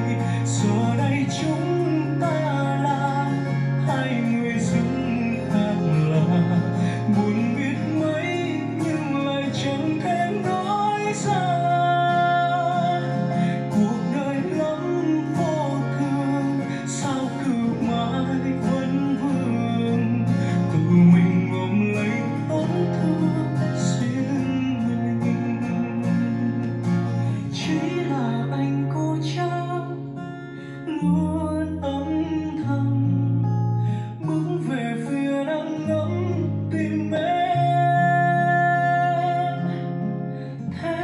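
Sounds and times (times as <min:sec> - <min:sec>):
person singing: 0:00.0 - 0:41.0
slow song with guitar: 0:00.0 - 0:41.0.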